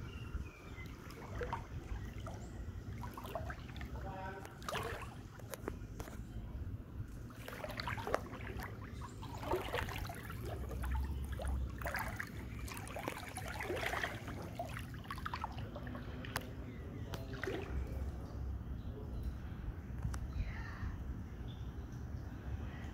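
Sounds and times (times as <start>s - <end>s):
footsteps sloshing through water: 0.0s - 18.4s.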